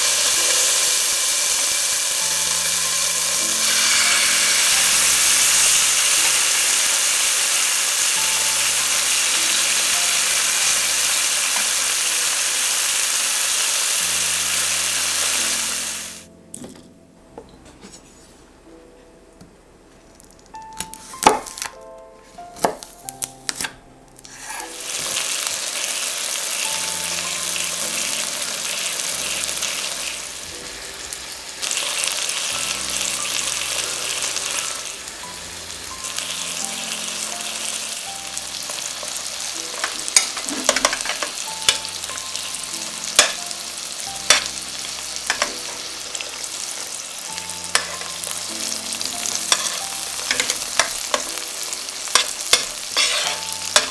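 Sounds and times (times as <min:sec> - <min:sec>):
chicken sizzling in a pan: 0:00.0 - 0:16.3, 0:24.2 - 0:53.9.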